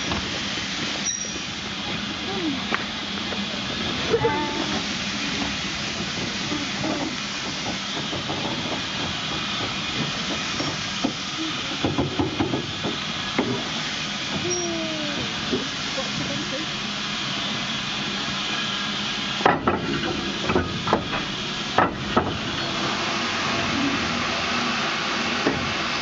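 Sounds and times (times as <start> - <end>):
steam hissing from locomotive: 0.0 - 26.0.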